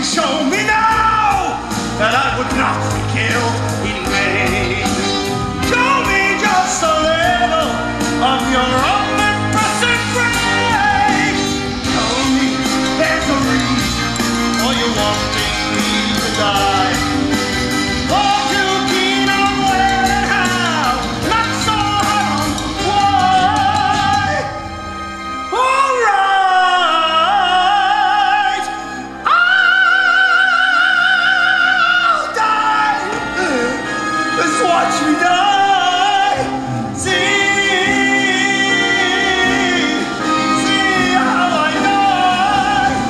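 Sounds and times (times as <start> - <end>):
man singing rock song: 0.0 - 17.4, 18.0 - 24.7, 25.5 - 43.0
rock band playing: 0.0 - 27.4, 31.1 - 43.0.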